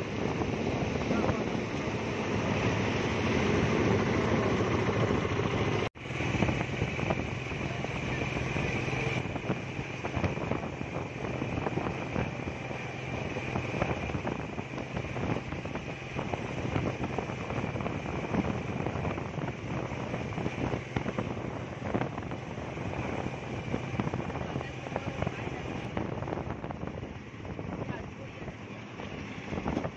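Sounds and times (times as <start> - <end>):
distant highway truck traffic: 0.0 - 29.9
wind gusting on microphone: 0.0 - 29.9.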